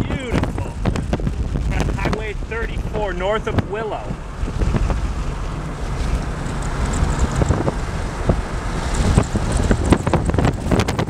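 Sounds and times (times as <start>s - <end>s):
vehicle road noise: 0.0s - 11.0s
wind buffeting microphone: 0.0s - 11.0s.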